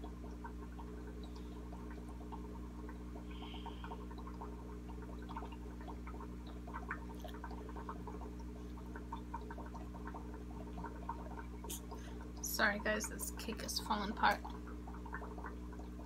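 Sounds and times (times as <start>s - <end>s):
steady low hum: 0.0s - 16.0s
water trickling in fish tank: 0.0s - 16.0s.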